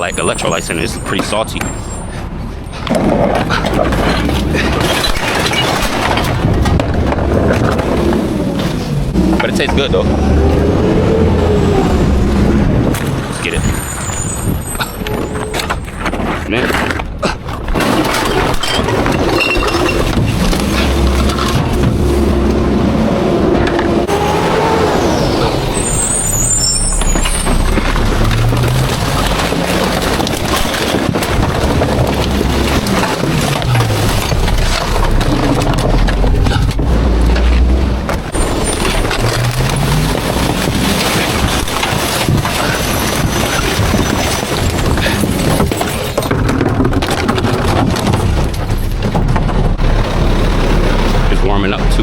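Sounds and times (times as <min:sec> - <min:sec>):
garbage truck engine running: 0:00.0 - 0:52.0.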